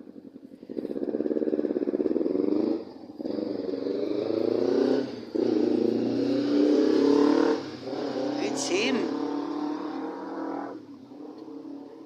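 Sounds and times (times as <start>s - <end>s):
motorcycle engine revving past: 0.0s - 12.0s.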